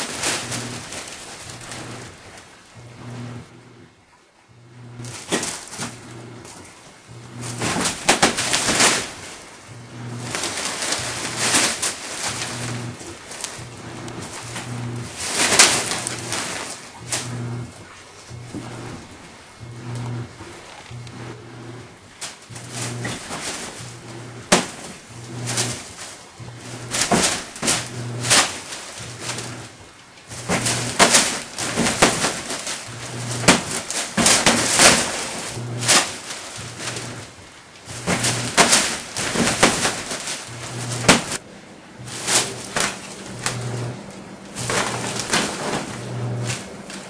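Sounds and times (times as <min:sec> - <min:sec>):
cat scratching fabric tent: 0:00.0 - 0:03.9, 0:04.7 - 0:47.0
pulsing low hum: 0:00.0 - 0:47.0.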